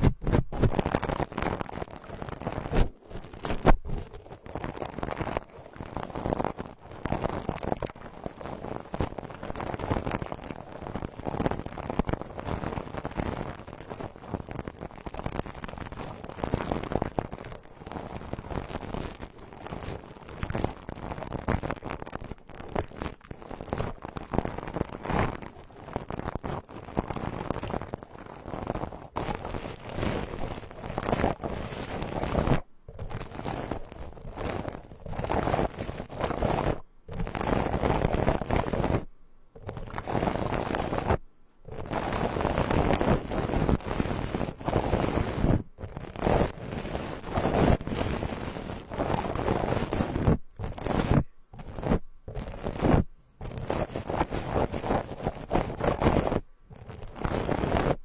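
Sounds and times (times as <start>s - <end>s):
brush scratching on microphone: 0.0s - 58.0s.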